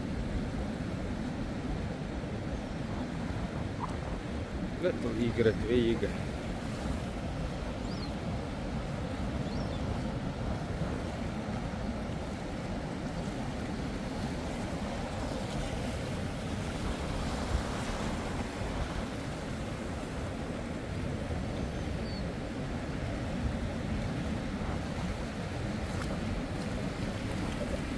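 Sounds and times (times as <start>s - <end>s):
ocean surf breaking: 0.0s - 27.9s
wind buffeting microphone: 0.0s - 27.9s.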